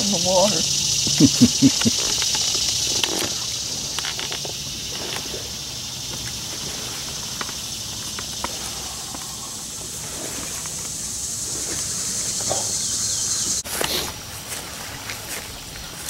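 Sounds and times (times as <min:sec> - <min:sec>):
insects chorus shrill hiss: 0:00.0 - 0:16.0.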